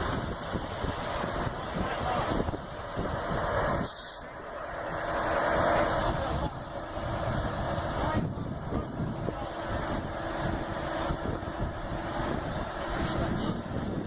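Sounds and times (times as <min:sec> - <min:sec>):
heavy truck engine running: 0:00.0 - 0:14.0.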